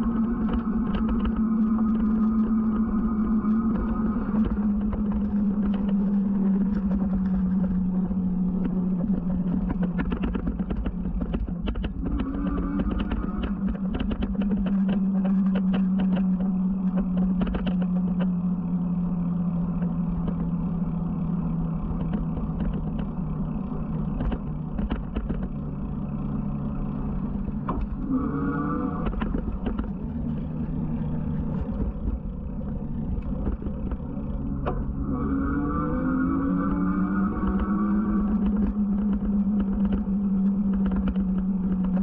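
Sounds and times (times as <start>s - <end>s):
wind rumble on microphone: 0.0s - 18.8s, 27.0s - 42.0s.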